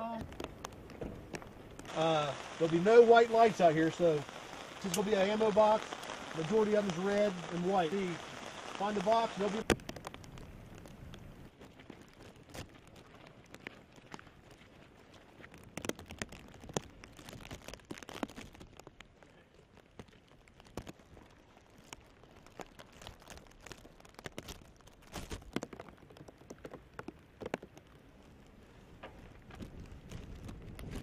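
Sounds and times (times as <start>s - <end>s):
footsteps on wet gravel: 0.0s - 31.0s
light rain pattering: 0.0s - 31.0s.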